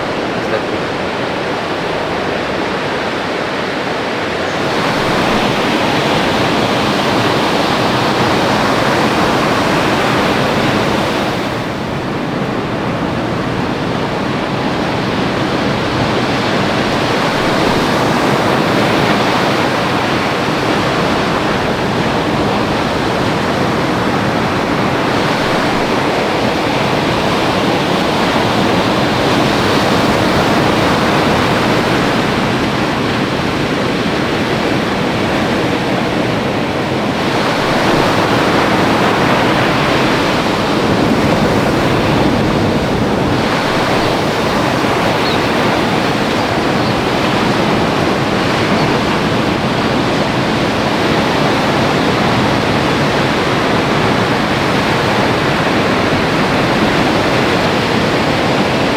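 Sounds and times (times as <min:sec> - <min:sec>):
ocean surf breaking: 0:00.0 - 0:58.9.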